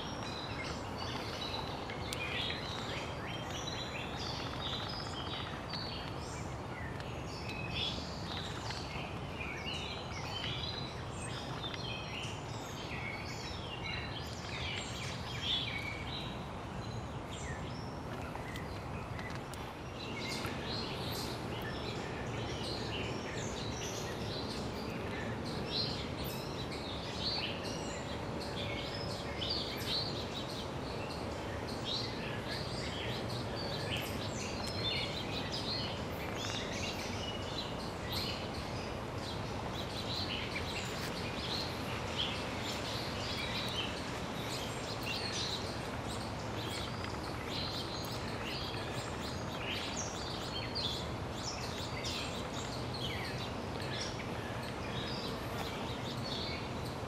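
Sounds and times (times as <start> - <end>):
outdoor background hiss: 0.0 - 57.0
songbirds chirping and singing: 0.0 - 57.0.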